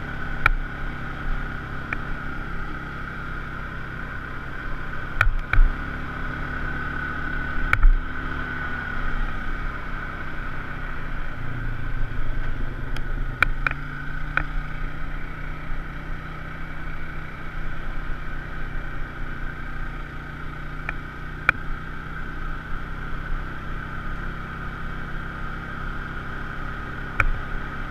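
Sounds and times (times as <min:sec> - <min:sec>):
utility vehicle engine running: 0:00.0 - 0:27.9.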